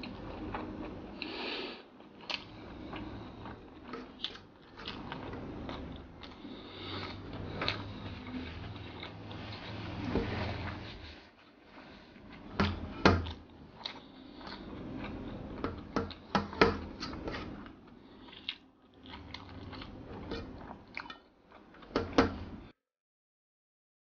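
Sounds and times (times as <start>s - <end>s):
person chewing: 0.0s - 10.8s, 12.2s - 22.0s.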